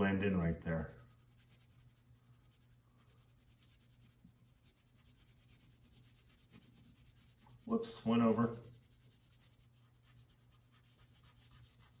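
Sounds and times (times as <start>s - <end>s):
low steady hum: 0.0s - 12.0s
crayon scratching on paper: 0.1s - 12.0s.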